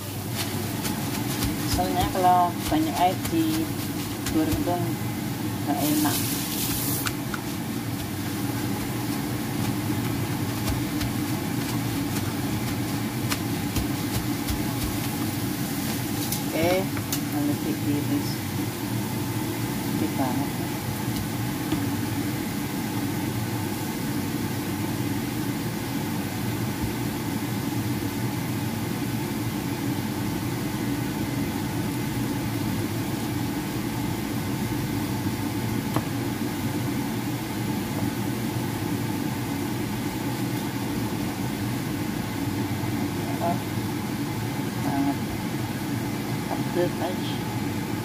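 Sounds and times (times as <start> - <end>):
steady machine hum: 0.0 - 48.0.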